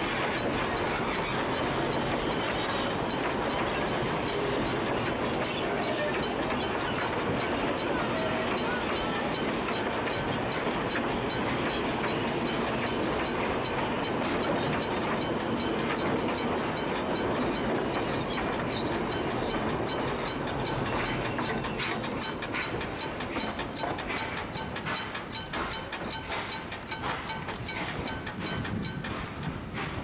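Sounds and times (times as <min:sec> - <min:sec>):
train wheels rumbling and clicking: 0:00.0 - 0:30.0.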